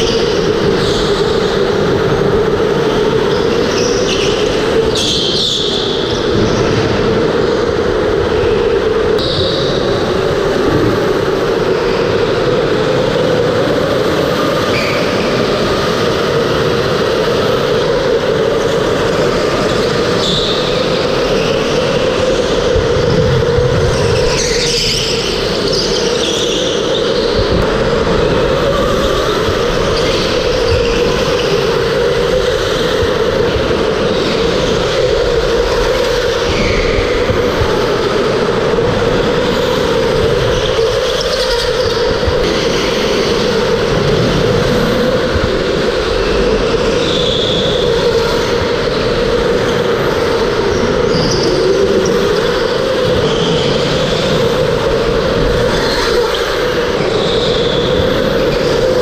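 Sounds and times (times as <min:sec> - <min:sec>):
tyre and wind noise: 0:05.7 - 0:59.0.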